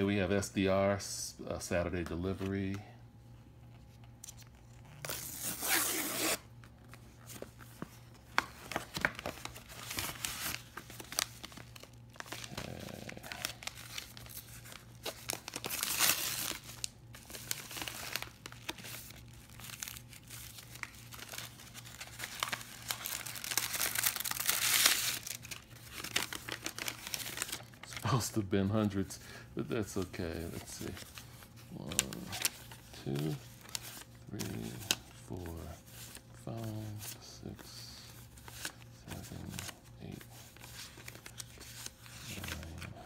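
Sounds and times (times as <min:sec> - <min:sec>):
paper envelopes tearing: 0:04.2 - 0:07.5, 0:08.2 - 0:43.0
paper crinkling and rustling: 0:06.2 - 0:43.0.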